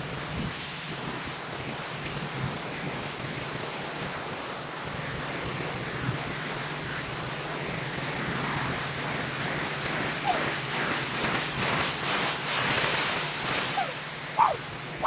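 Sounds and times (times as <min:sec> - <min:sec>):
pressure washer spraying concrete: 0:00.5 - 0:14.9.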